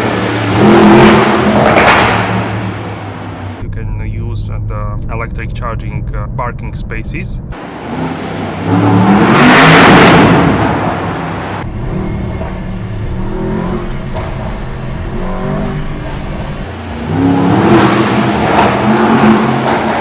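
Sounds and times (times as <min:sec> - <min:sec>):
car engine accelerating hard: 0:00.0 - 0:03.6, 0:07.5 - 0:20.0.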